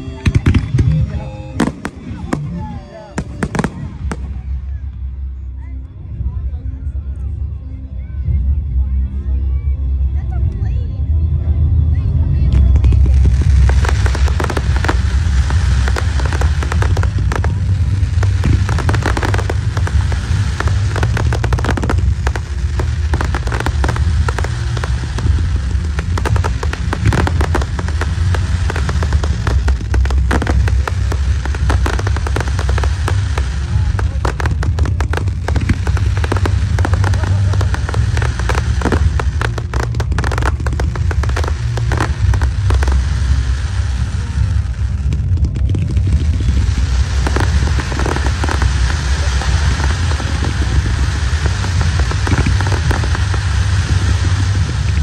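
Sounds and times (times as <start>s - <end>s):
fireworks bangs and crackling: 0.0s - 5.5s, 12.4s - 55.0s
low rumble: 0.0s - 55.0s.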